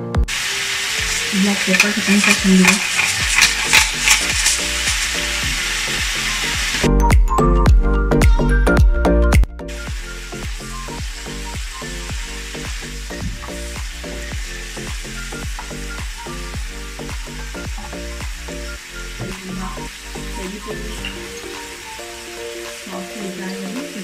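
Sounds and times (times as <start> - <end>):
vegetables sizzling in oil: 0.3 - 6.9, 9.7 - 24.0.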